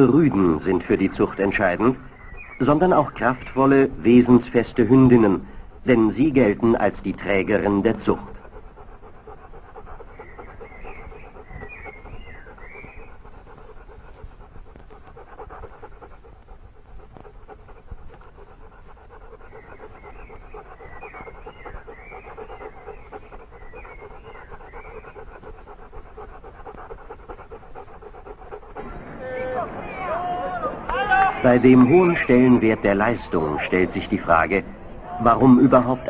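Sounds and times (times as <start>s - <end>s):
dog panting: 0.0s - 30.6s, 31.3s - 36.0s.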